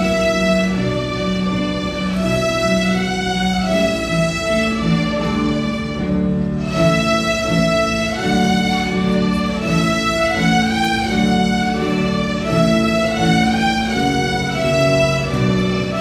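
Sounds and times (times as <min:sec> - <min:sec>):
children's violin ensemble: 0:00.0 - 0:16.0
piano accompaniment: 0:00.0 - 0:16.0.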